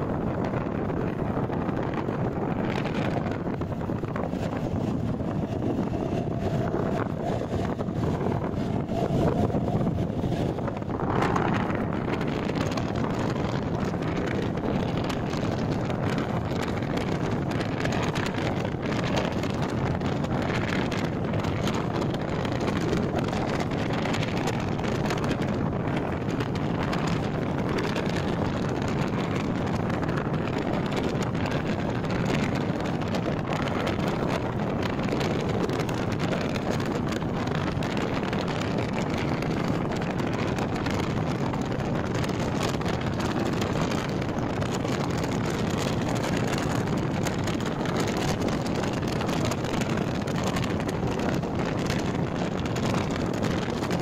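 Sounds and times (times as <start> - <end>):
train rumbling on track: 0.0 - 54.0
wind buffeting microphone: 0.0 - 54.0.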